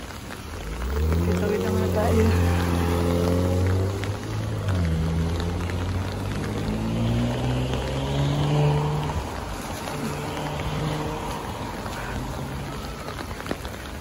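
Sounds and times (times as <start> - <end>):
rain on wet pavement: 0.0 - 14.0
car engine humming: 0.5 - 13.6.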